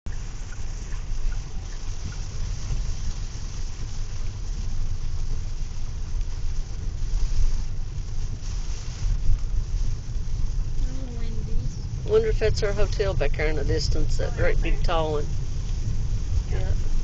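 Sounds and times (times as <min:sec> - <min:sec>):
car driving low rumble: 0:00.0 - 0:17.0
rain: 0:00.1 - 0:17.0
tyres hissing on wet road: 0:00.1 - 0:17.0.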